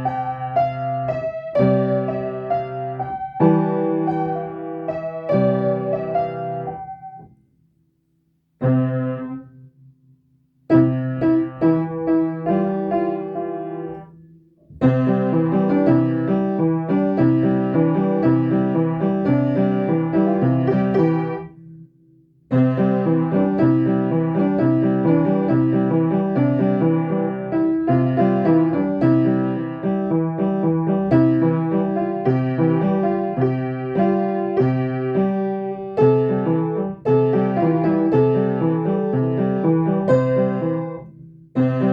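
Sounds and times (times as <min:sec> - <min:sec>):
piano playing: 0:00.0 - 0:07.4, 0:10.7 - 0:21.8, 0:22.5 - 0:41.9.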